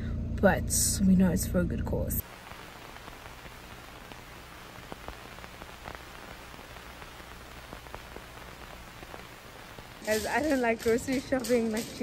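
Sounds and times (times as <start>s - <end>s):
low hum: 0.0s - 12.0s
faint steady hiss: 2.2s - 12.0s.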